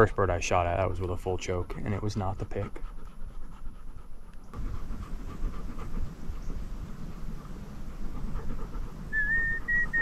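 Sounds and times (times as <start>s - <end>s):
dog panting hard: 1.4s - 10.0s.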